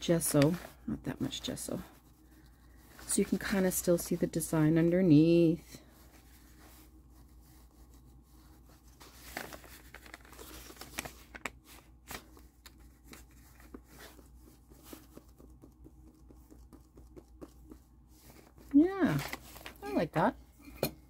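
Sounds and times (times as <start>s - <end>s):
plastic sheet rustling and crinkling: 0.0s - 2.1s, 2.7s - 15.4s, 18.1s - 20.3s.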